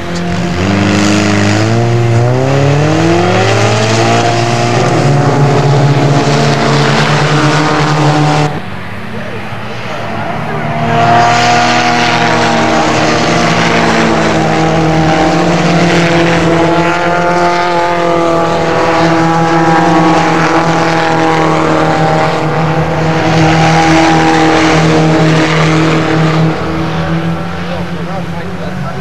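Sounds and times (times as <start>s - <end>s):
race car engines running hard: 0.0s - 29.0s.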